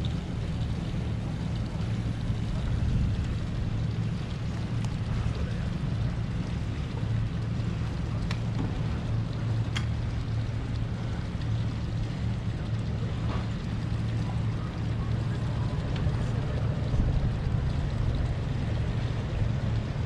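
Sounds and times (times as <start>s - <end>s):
boat engines idling: 0.0s - 20.0s.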